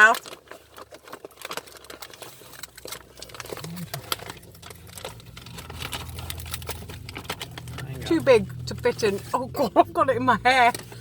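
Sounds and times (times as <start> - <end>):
people crunching hard bread: 0.0 - 10.0.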